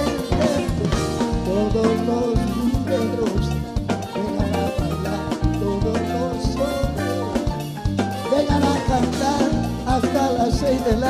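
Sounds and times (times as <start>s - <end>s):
bass line: 0.0s - 11.0s
drum-kit beat: 0.0s - 11.0s
group singing melody: 0.0s - 11.0s
live r and b band music: 0.0s - 11.0s.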